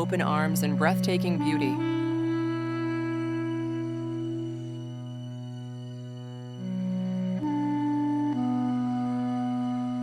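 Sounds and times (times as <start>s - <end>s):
soft background music drone: 0.0s - 10.0s.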